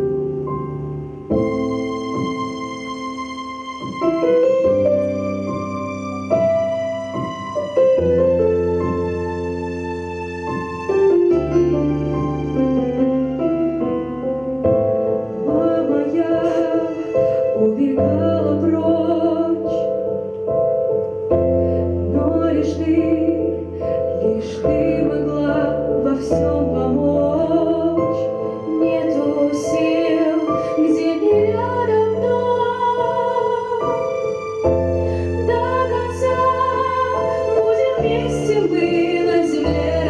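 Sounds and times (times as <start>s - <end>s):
piano accompaniment: 0.0s - 40.0s.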